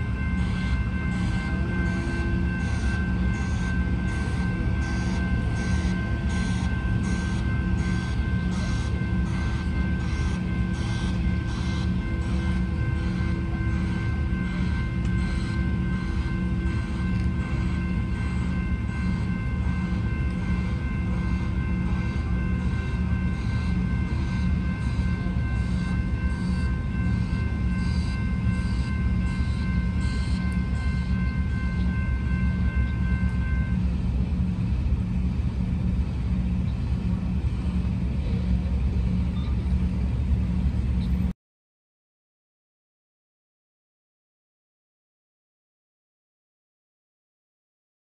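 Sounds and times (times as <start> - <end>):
level-crossing bell ringing: 0.0 - 40.8.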